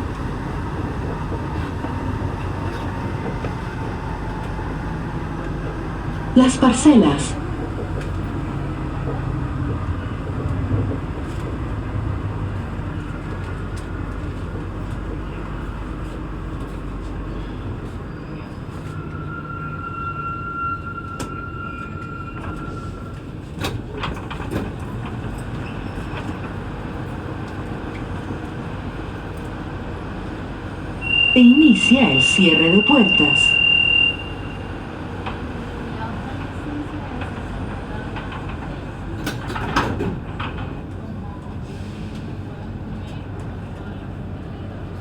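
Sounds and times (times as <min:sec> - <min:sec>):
train car hum: 0:00.0 - 0:45.0
train running rumble: 0:00.0 - 0:45.0.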